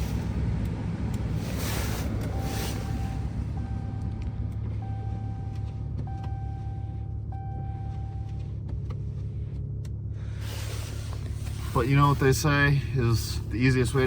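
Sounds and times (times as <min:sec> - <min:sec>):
pickup truck droning: 0:00.0 - 0:14.0.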